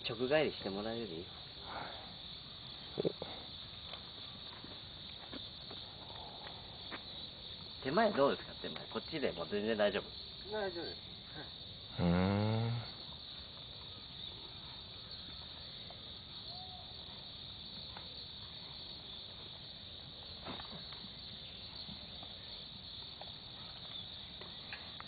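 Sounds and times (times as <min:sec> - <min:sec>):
faint chirring of insects: 0:00.0 - 0:25.0.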